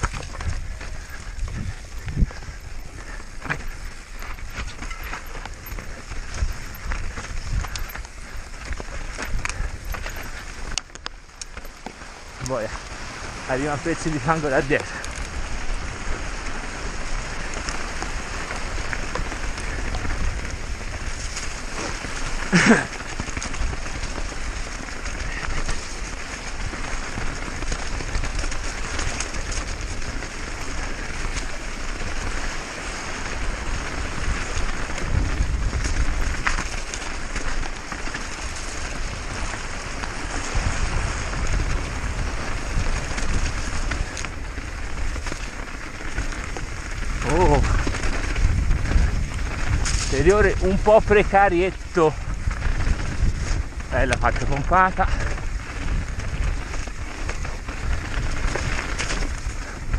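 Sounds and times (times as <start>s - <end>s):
bike clicking and rattling: 0.0s - 59.9s
bike tyres and wind rushing: 0.0s - 59.9s.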